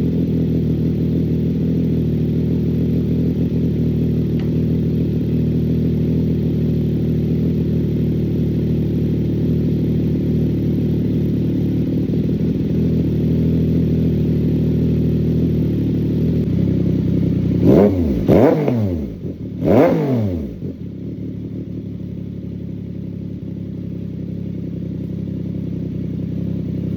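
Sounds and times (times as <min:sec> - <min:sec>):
motorcycle engine idling and revving: 0:00.0 - 0:26.9.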